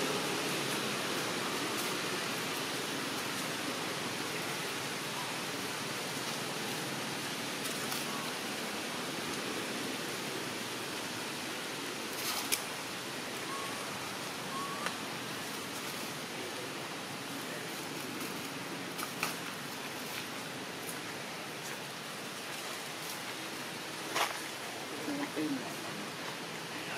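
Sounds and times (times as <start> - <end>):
outdoor ambience hiss: 0.0 - 26.9.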